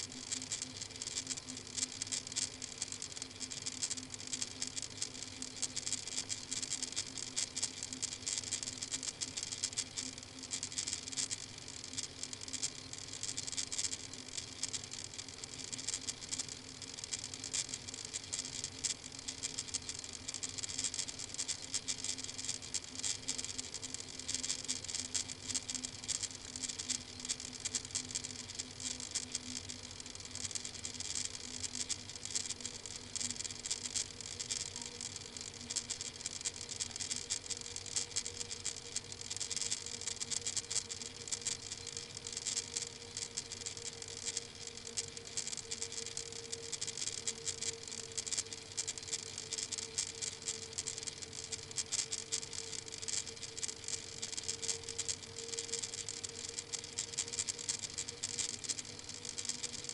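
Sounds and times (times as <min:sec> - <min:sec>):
crackle and hiss: 0:00.0 - 0:59.9.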